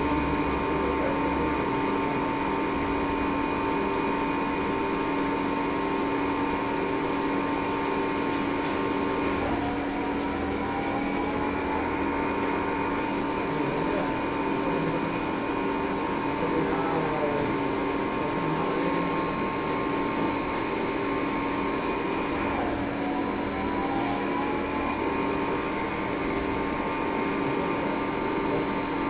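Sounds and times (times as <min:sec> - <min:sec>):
lathe mechanical whine: 0:00.0 - 0:29.0.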